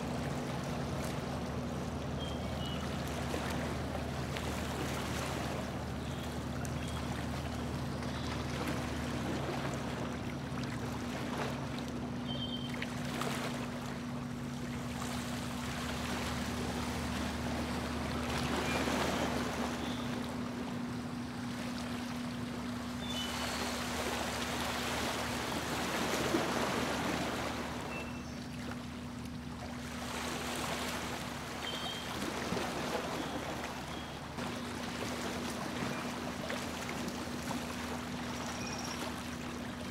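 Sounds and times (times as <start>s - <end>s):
boat motor humming: 0.0s - 39.9s
water splashing along hull: 0.0s - 39.9s.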